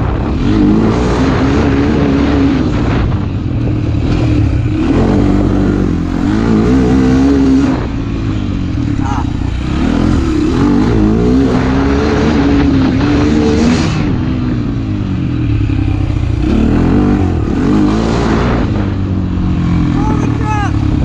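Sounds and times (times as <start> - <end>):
wind noise: 0.0 - 19.9
motorcycle engine accelerating: 0.0 - 21.0.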